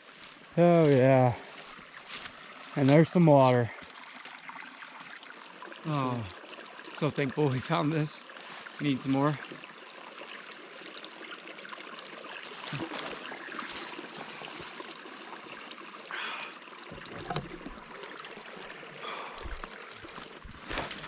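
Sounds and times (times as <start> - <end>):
water trickling: 0.1 - 21.0.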